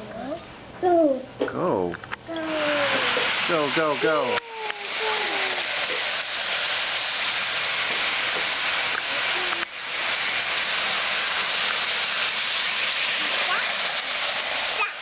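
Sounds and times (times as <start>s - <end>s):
toy electric train running: 2.3s - 15.0s.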